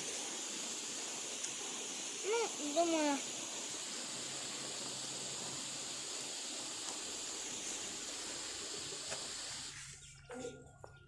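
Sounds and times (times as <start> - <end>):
water spray hissing: 0.0 - 10.0.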